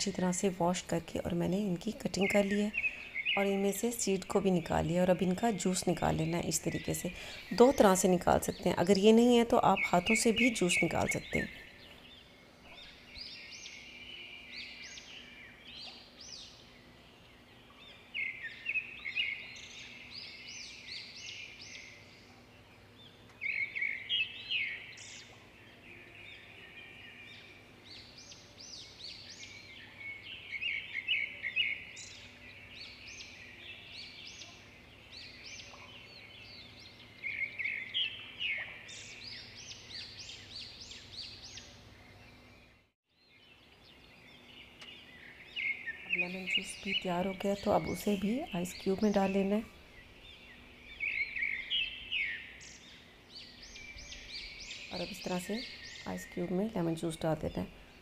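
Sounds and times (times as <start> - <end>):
faint steady hum: 0.0 - 58.0
small birds chirping and trilling: 0.0 - 58.0.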